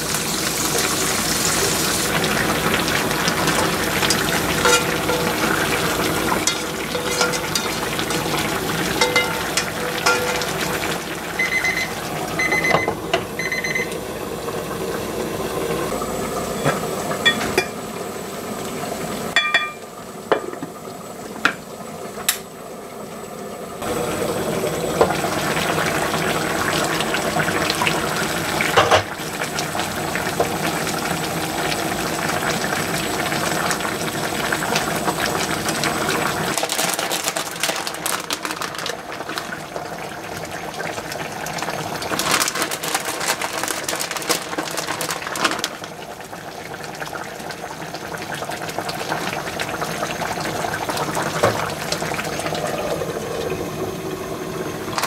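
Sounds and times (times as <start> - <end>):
liquid bubbling in a pan: 0.0 - 37.6, 38.3 - 55.0.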